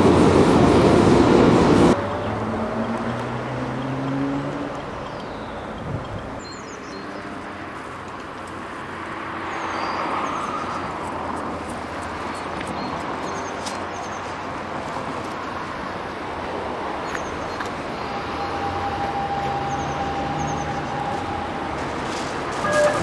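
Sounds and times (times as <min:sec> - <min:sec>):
tram wheels rumbling: 0:00.0 - 0:06.4, 0:10.8 - 0:23.0
street noise: 0:00.0 - 0:23.0.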